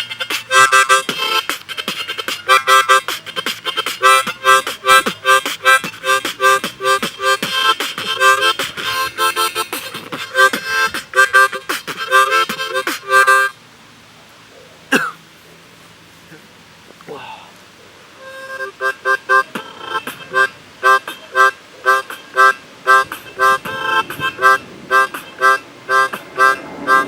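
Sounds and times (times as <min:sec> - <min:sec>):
harmonica beatbox: 0:00.0 - 0:13.5, 0:18.2 - 0:27.0.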